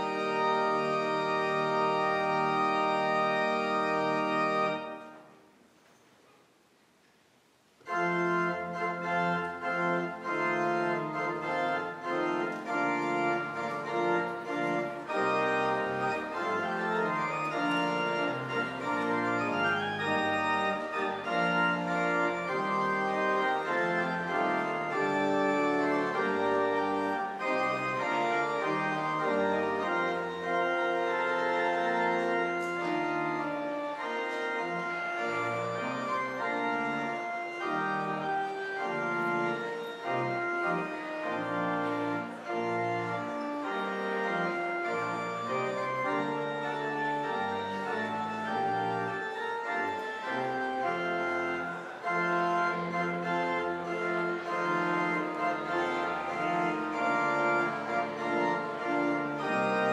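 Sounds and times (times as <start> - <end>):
church organ chords: 0.0 - 5.3, 7.8 - 59.9.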